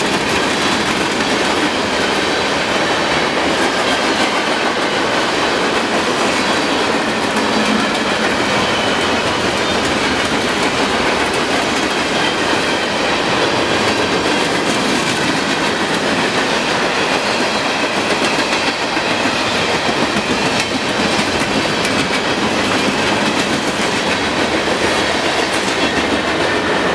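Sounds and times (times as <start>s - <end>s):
freight train cars rolling past: 0.0s - 26.9s
light clicks of wheels on rails: 0.0s - 26.9s.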